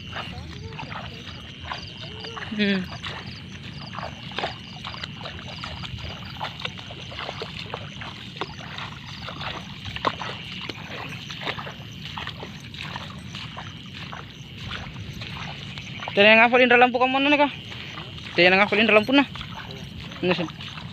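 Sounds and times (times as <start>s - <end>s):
water splashing and sloshing: 0.0s - 20.9s.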